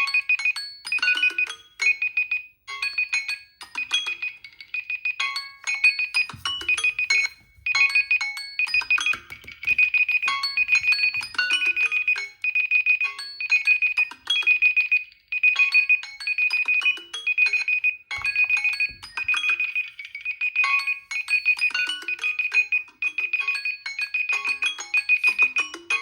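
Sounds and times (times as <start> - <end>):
smartphone alarm melody: 0.0 - 26.0.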